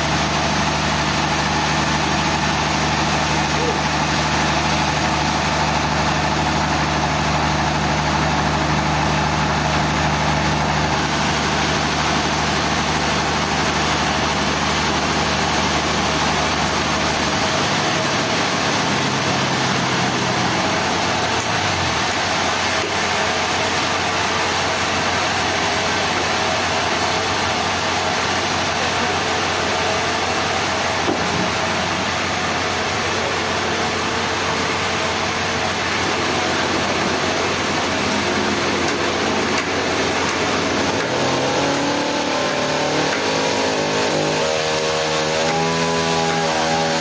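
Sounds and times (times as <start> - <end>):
engine running: 0.0 - 47.0
loud mechanical noise: 0.0 - 47.0.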